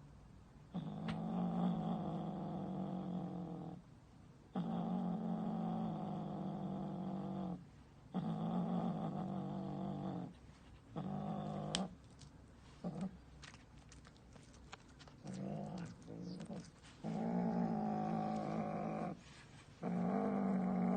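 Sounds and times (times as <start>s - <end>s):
cat growling: 0.7s - 3.8s, 4.6s - 12.0s, 12.8s - 13.2s, 13.9s - 20.9s.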